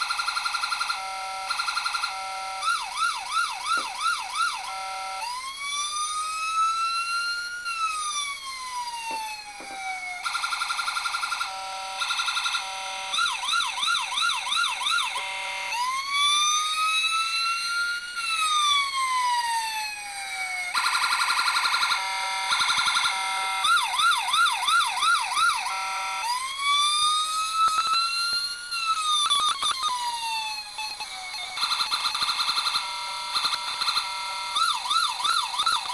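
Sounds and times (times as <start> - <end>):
electronic toy siren: 0.0 - 35.9.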